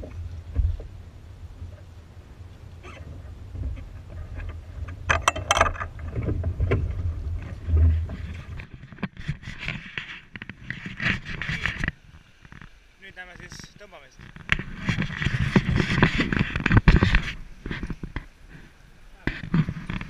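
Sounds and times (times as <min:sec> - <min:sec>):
water splashing along hull: 0:00.0 - 0:20.0
wind rumbling on microphone: 0:00.0 - 0:20.0.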